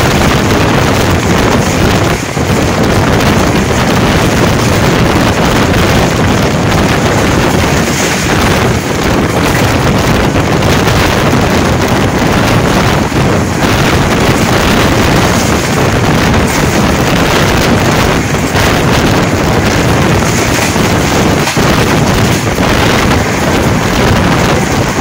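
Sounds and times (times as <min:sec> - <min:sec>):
train coach rumbling on rails: 0:00.0 - 0:25.0
wind buffeting microphone: 0:00.0 - 0:25.0.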